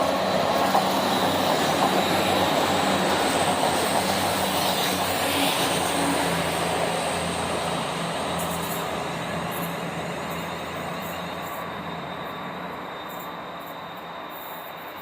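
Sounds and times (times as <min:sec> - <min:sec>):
train wagons rushing on rails: 0:00.0 - 0:15.0.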